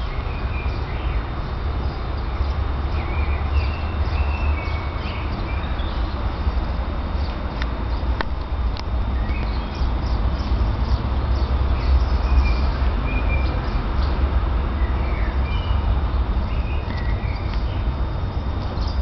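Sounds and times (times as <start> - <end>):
small birds chirping: 0.0 - 8.3, 9.0 - 19.0
steady low rumble: 0.0 - 19.0.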